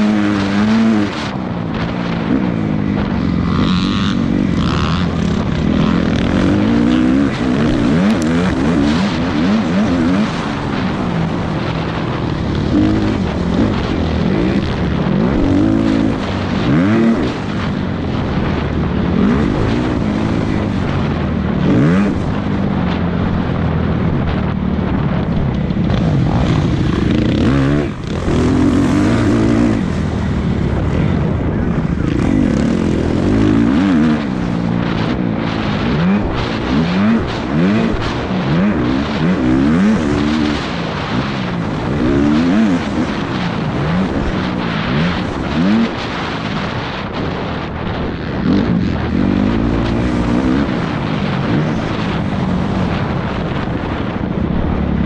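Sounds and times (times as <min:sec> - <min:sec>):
motorbike engine revving hard: 0:00.0 - 0:24.3, 0:24.9 - 0:55.0
steady rushing noise: 0:00.0 - 0:55.0.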